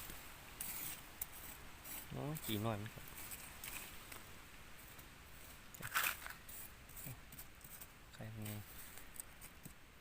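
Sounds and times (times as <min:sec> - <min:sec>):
rustling of dry leaves: 0:00.0 - 0:10.0.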